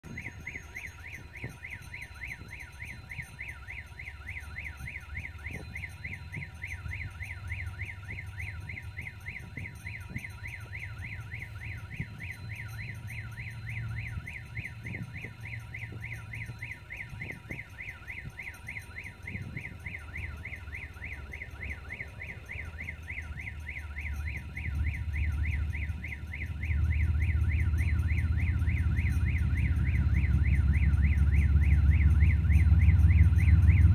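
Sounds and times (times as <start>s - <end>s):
warbling electronic warning tone: 0.0s - 33.9s
diesel locomotive engine rumble: 5.1s - 33.9s.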